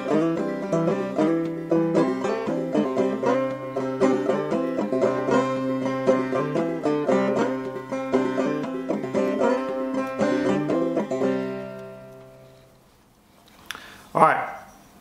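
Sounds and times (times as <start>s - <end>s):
banjo picking notes: 0.0s - 12.8s.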